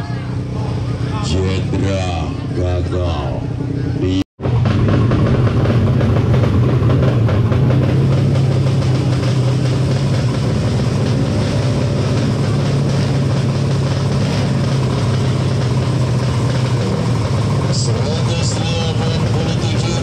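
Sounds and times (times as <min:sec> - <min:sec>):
motorcycle engine running: 0:03.3 - 0:20.0.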